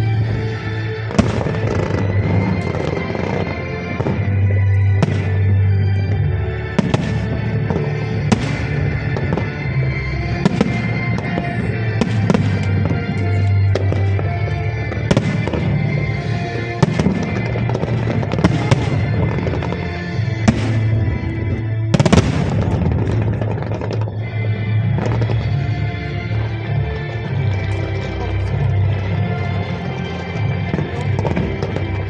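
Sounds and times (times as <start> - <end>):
fireworks bursting and crackling: 0.0 - 32.0
music with heavy bass: 0.0 - 32.0.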